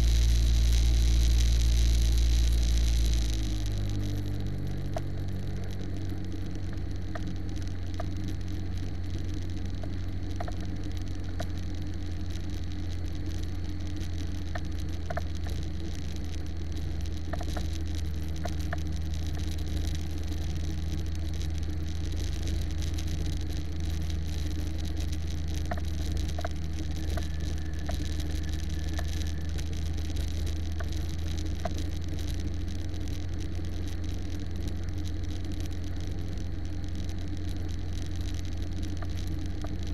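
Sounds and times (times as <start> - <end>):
faint clicks: 0.1 - 39.9.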